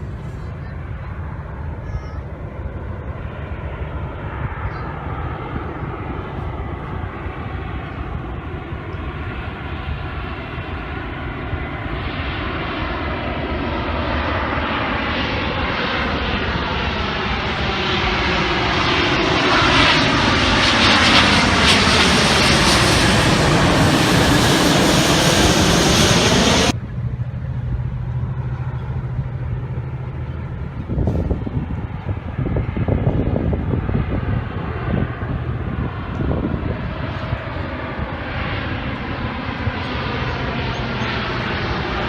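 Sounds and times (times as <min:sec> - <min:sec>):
aircraft flying over: 0:00.0 - 0:42.0.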